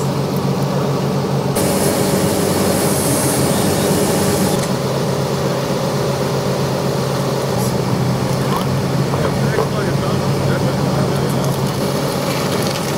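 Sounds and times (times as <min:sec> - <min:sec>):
truck engine humming: 0:00.0 - 0:12.9.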